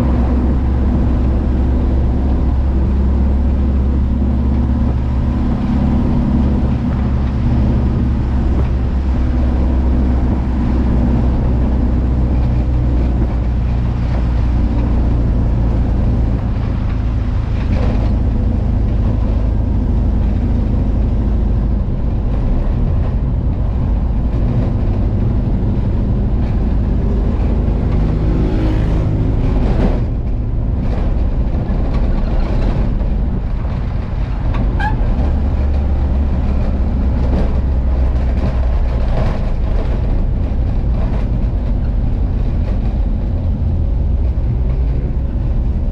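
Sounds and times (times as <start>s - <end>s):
van engine running: 0.0s - 45.9s.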